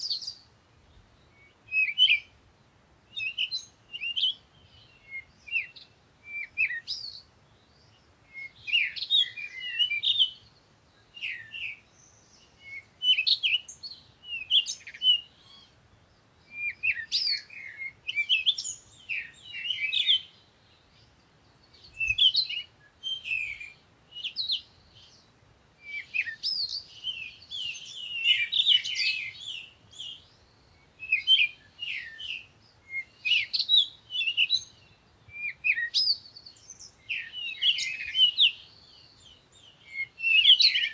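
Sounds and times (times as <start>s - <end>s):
songbirds chirping and warbling: 0.0s - 40.9s.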